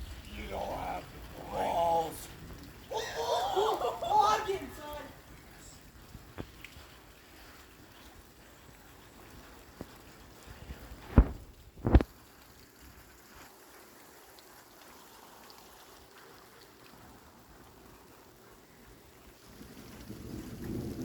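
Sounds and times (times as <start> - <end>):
light rain hissing: 0.0 - 21.0.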